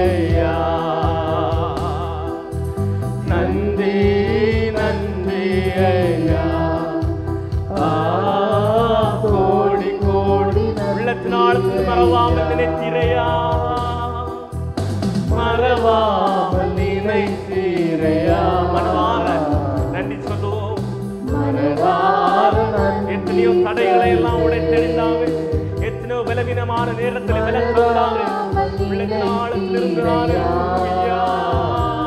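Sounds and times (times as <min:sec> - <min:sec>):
instrumental accompaniment: 0:00.0 - 0:32.0
worship song singing: 0:00.0 - 0:32.0.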